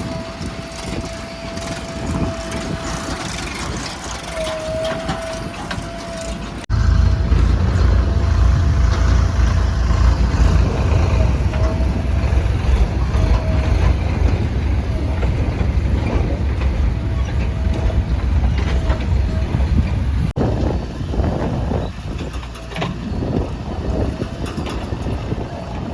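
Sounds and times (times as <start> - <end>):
diesel engine deep rumble: 0.0 - 25.9.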